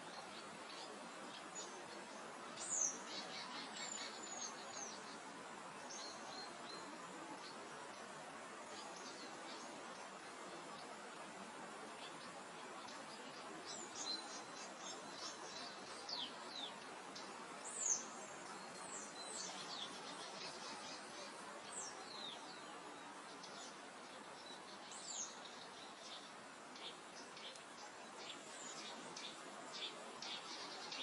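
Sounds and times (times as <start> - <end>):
songbirds chirping: 0.0 - 31.0
wind through grass: 0.0 - 31.0.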